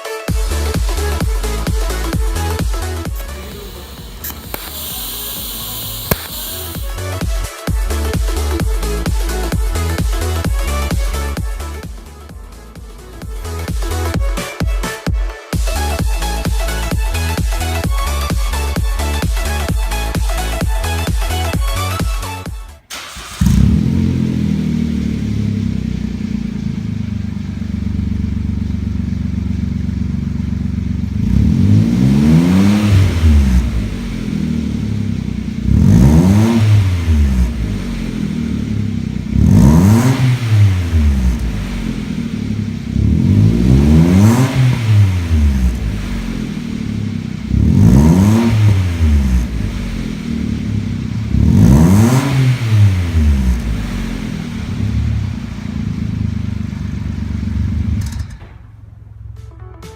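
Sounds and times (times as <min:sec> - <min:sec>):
car engine idling and revving: 0:00.0 - 0:15.0, 0:15.6 - 0:59.7.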